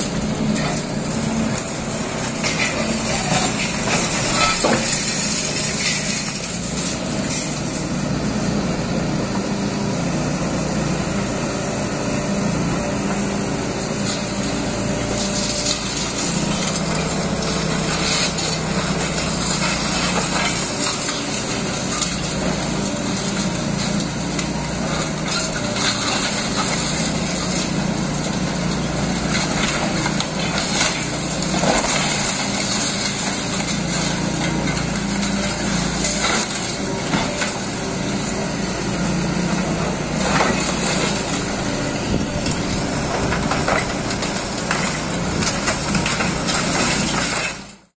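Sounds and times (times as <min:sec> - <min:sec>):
concrete and brick cracking: 0:00.0 - 0:07.8, 0:14.0 - 0:38.4, 0:40.0 - 0:41.6, 0:42.4 - 0:47.9
excavator diesel engine running: 0:00.0 - 0:47.9.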